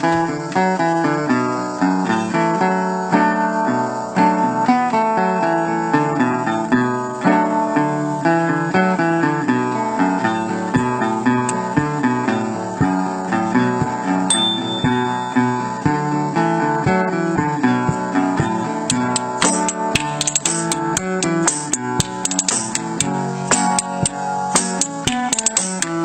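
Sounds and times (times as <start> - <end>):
acoustic guitar plucked and strummed: 0.0 - 26.0.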